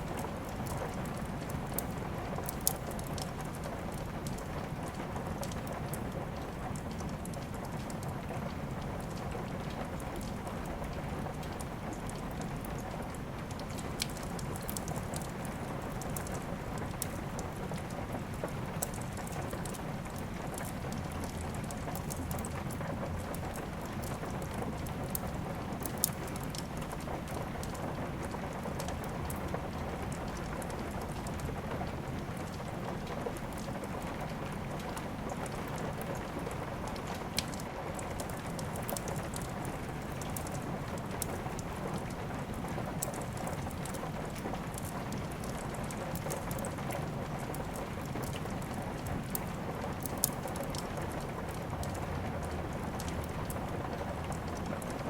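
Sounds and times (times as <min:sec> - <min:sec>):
steady rain falling: 0:00.0 - 0:55.0
wood fire crackling: 0:00.0 - 0:55.0.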